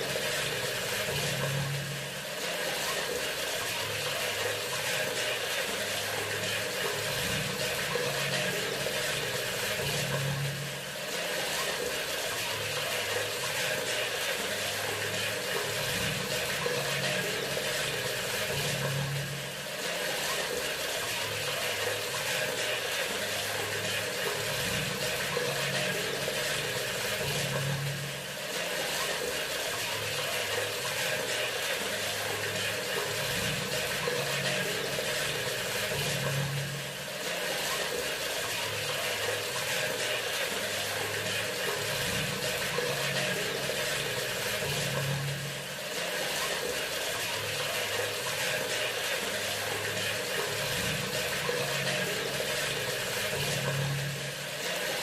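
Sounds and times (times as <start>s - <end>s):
water running from a faucet: 0.0s - 55.0s.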